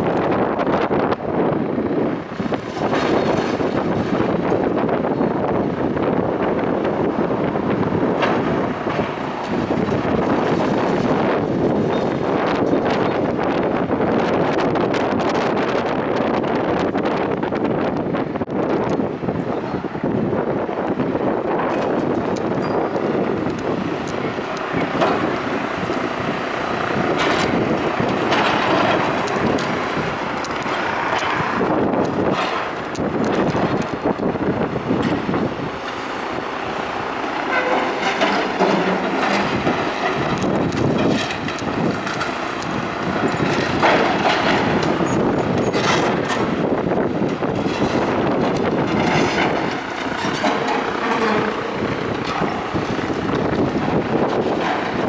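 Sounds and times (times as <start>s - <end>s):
demolition machinery rumble: 0.0s - 55.0s.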